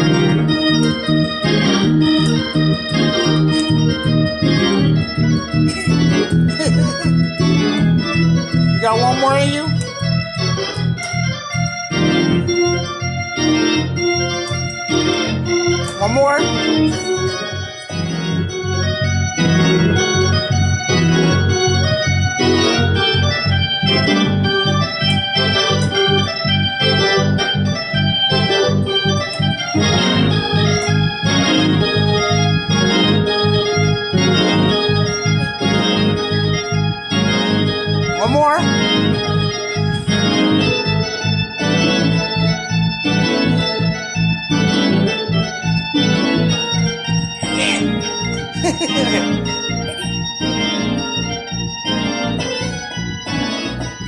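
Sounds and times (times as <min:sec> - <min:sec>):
organ playing chord stabs: 0:00.0 - 0:54.0.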